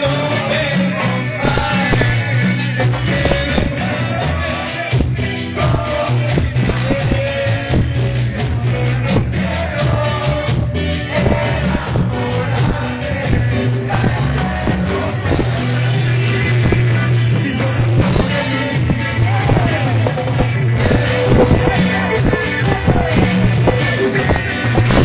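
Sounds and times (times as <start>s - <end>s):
rock music with singing: 0.0s - 25.0s.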